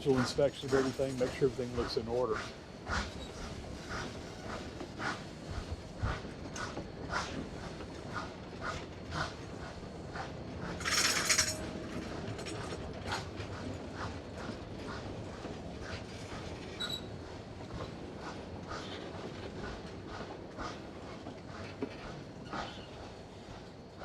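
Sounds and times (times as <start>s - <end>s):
train wheels clicking over rail joints: 0.0s - 24.0s.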